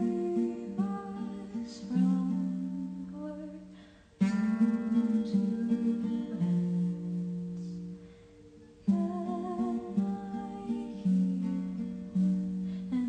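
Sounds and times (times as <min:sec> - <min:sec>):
acoustic guitar chords ringing: 0:00.0 - 0:13.0.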